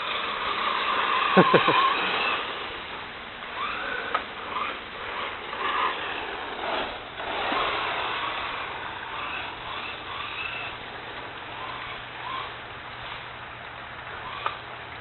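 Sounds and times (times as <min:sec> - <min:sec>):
short faint whines: 0:00.0 - 0:15.0
toy car tyres rushing over ice: 0:00.0 - 0:15.0.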